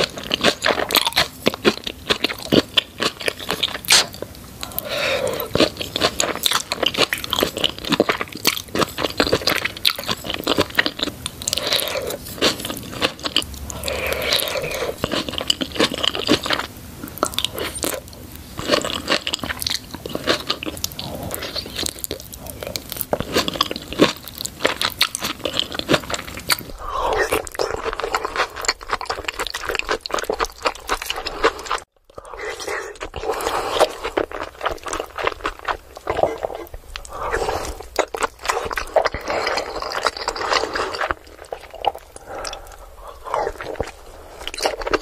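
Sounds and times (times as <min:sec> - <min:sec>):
chewing crunchy corn: 0:00.0 - 0:45.0.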